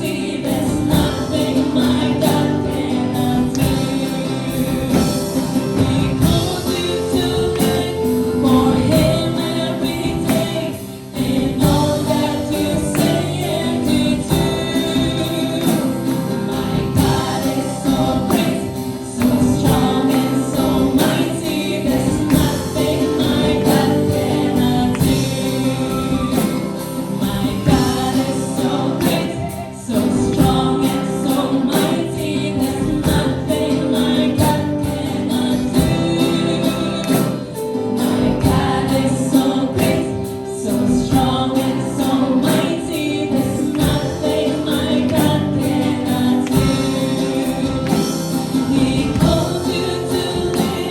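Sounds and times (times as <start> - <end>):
group singing gospel song: 0.0 - 50.9
instrumental accompaniment: 0.0 - 50.9.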